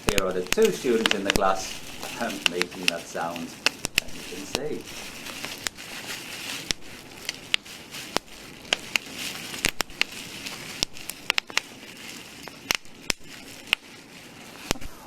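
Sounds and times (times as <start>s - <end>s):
bubble wrap popping: 0.0s - 15.0s
plastic sheet rustling: 0.0s - 15.0s.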